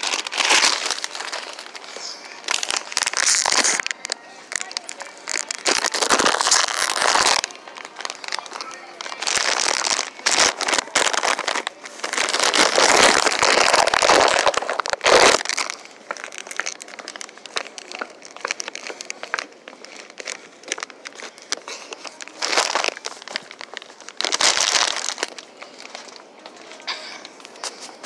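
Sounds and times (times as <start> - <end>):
crinkling rustling: 0.0 - 28.0.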